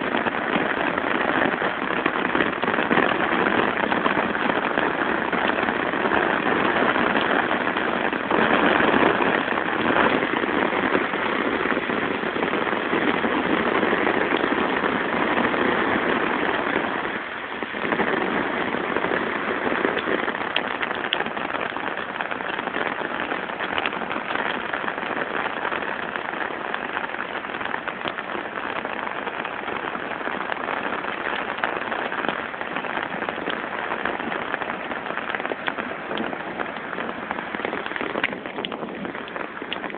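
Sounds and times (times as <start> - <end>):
heavy rain pouring: 0.0 - 39.9
rain drops ticking: 0.0 - 39.9.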